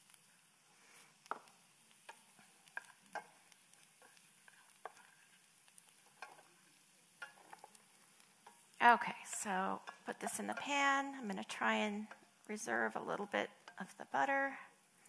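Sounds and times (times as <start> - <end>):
faint sizzle: 0.0 - 15.0
spatula scraping frying pan: 0.8 - 14.2.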